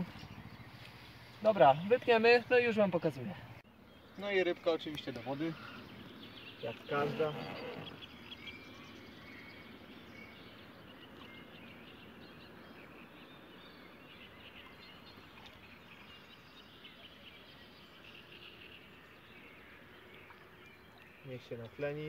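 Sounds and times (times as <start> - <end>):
distant birds chirping: 0.0 - 22.0.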